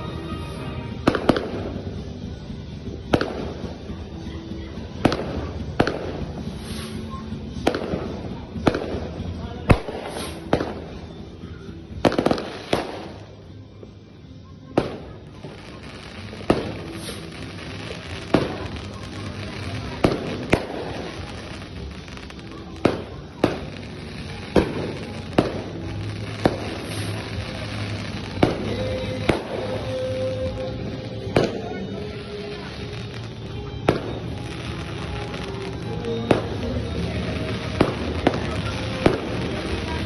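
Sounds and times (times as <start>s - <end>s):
fireworks bangs: 0.0s - 4.0s, 5.0s - 11.0s, 11.9s - 13.9s, 14.8s - 40.0s.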